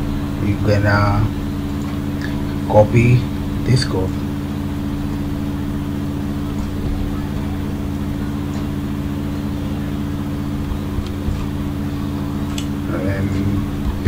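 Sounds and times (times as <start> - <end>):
low electrical machine hum: 0.0 - 14.0.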